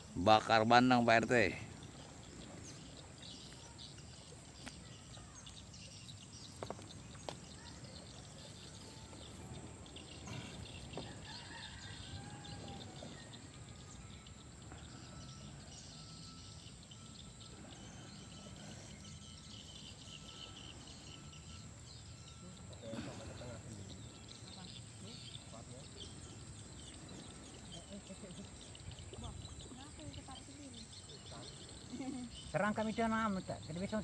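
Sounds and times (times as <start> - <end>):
bird calls: 1.2 - 34.0.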